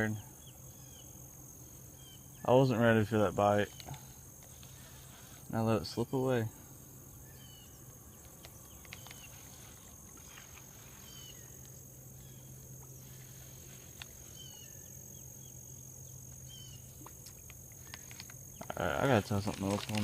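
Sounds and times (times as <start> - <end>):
bird chirps: 0.0 - 6.4, 7.0 - 18.8
insect chorus: 0.0 - 20.0.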